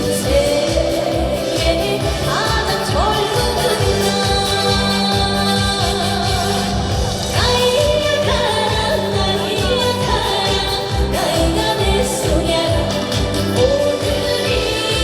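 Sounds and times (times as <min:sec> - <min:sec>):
backing track with steady beat: 0:00.0 - 0:15.0.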